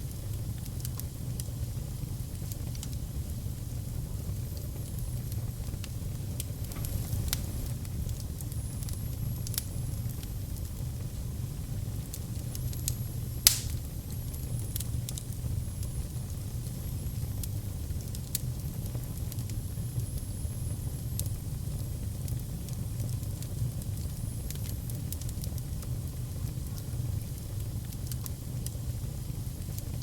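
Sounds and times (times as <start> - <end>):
fire crackling and popping: 0.0 - 30.0
fire rumbling: 0.0 - 30.0.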